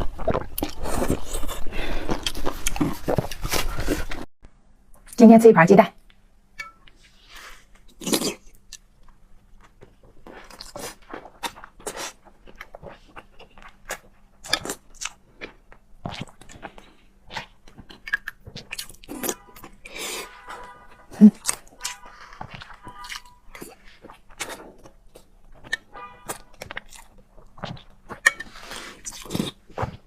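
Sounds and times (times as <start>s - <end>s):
person chewing food: 0.0s - 4.2s, 6.8s - 30.0s.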